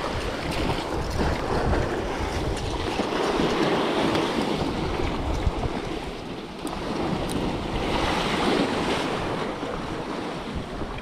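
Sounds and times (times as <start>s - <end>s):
sea surf breaking against rocks: 0.0s - 11.0s
wind buffeting microphone: 0.0s - 11.0s.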